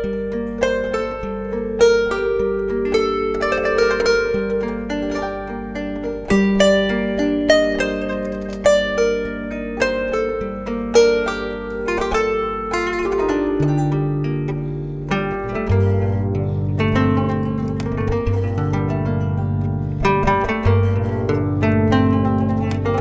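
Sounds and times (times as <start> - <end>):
plucked zither melody: 0.0 - 23.0.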